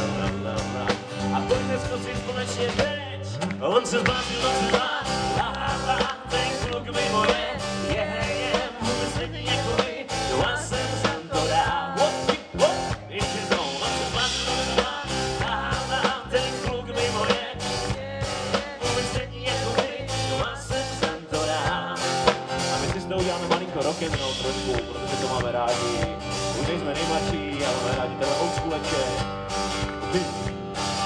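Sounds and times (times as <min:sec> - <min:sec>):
drum kit: 0:00.0 - 0:31.0
electric bass: 0:00.0 - 0:31.0
strummed acoustic guitar: 0:00.0 - 0:31.0.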